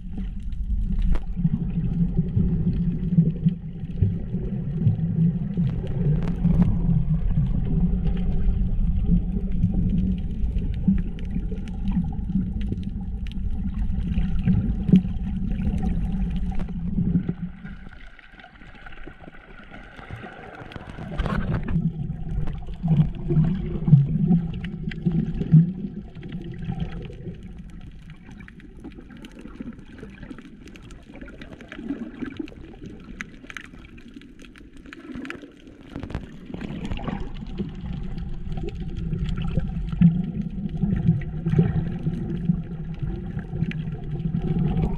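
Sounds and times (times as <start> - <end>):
muffled water gurgling: 0.0 - 44.9
underwater low rumble: 0.0 - 44.9.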